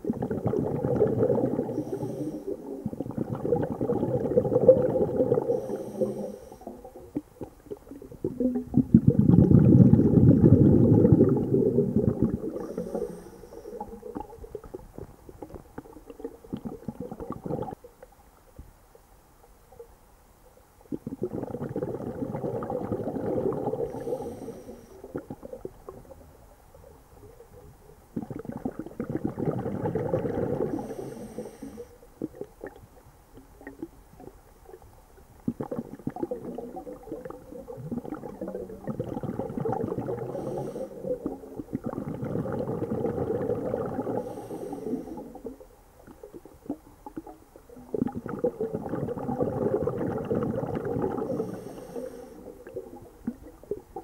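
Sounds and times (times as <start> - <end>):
bubbles gurgling underwater: 0.0 - 17.9, 20.9 - 31.2, 32.2 - 54.0.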